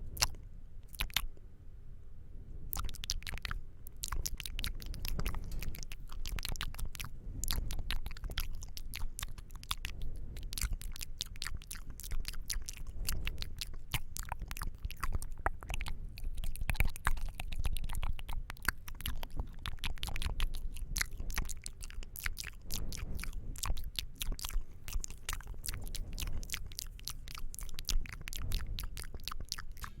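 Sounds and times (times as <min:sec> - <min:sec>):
wet lip and tongue clicks: 0:00.2 - 0:01.3, 0:02.7 - 0:30.0.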